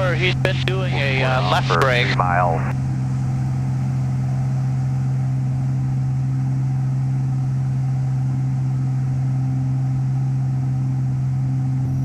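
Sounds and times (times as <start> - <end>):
plane engine and propeller drone: 0.0 - 12.0.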